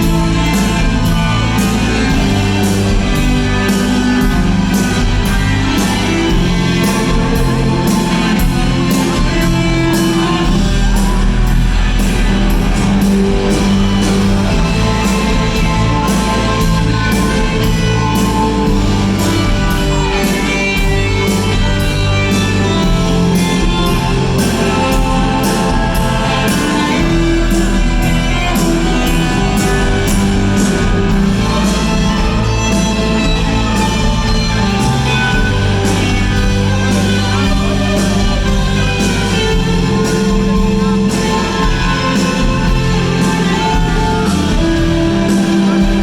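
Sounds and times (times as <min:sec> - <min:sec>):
bass guitar: 0:00.0 - 0:46.0
distorted electric guitars: 0:00.0 - 0:46.0
drums: 0:00.0 - 0:46.0.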